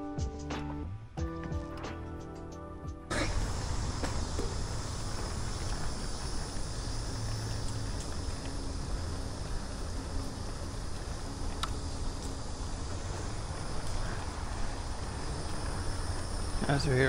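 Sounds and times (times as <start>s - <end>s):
high insect drone: 3.1s - 17.0s.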